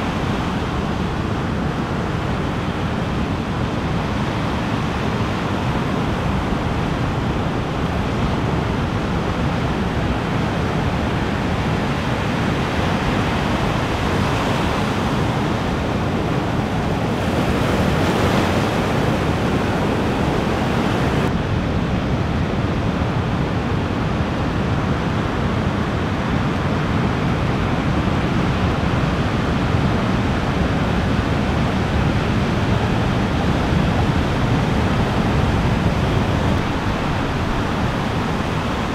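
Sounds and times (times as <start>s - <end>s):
ocean waves breaking: 0.0s - 22.2s, 27.6s - 38.9s.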